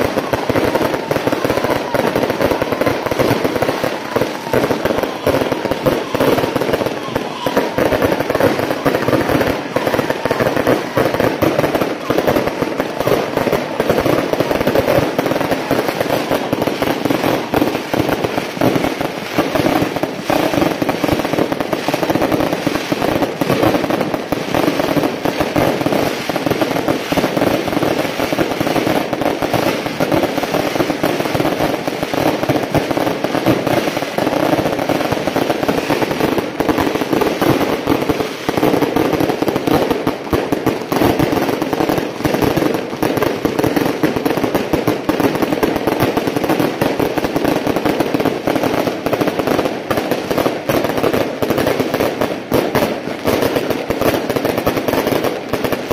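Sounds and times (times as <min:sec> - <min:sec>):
firecrackers going off: 0:00.0 - 0:55.9.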